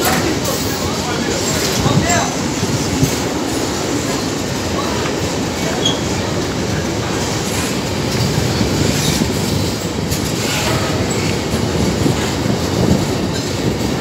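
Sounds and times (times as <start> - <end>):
train wheels clattering over rails: 0.0 - 14.0.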